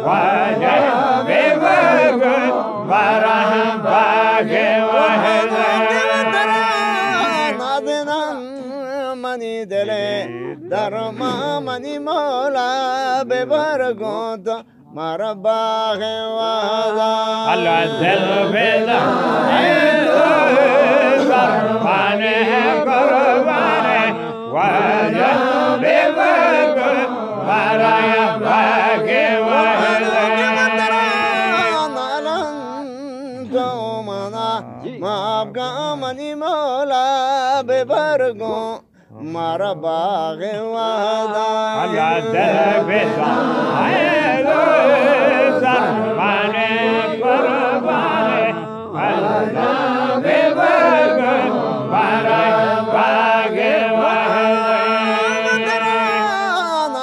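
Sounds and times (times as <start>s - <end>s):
men chanting together: 0.0s - 8.4s, 9.7s - 14.2s, 14.9s - 32.8s, 37.5s - 57.0s.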